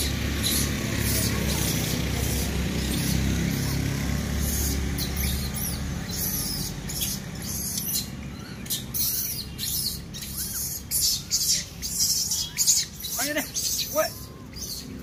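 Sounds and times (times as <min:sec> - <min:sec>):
low engine hum: 0:00.0 - 0:15.0
monkeys squeaking and chirping: 0:00.0 - 0:15.0.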